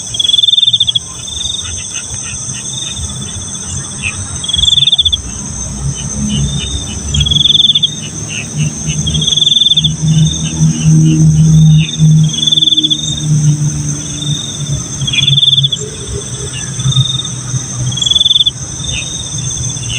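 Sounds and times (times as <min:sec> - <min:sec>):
cricket chirps: 0:00.0 - 0:19.9
insect drone: 0:00.0 - 0:19.9
low hum: 0:03.0 - 0:19.9.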